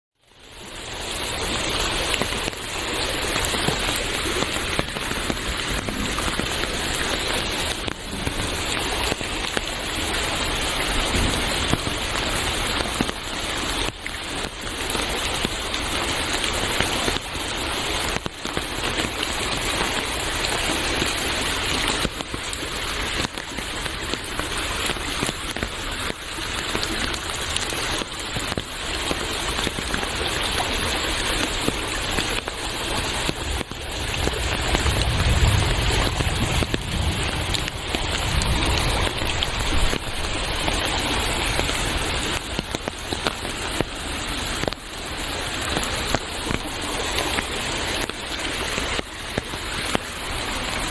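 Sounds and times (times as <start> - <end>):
running water: 0.2 - 50.9
steady rain hiss: 0.2 - 50.9.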